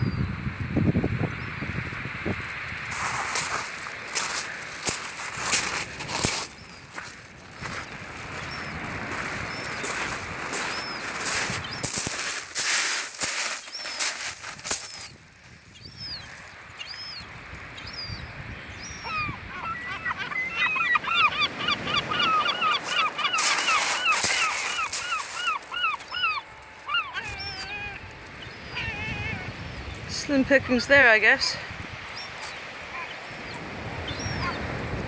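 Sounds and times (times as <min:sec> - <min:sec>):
gulls calling: 0:03.0 - 0:15.1, 0:18.8 - 0:35.0.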